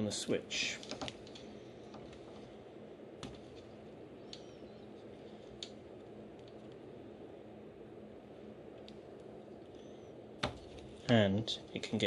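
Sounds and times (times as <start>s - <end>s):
room noise: 0.0s - 12.0s.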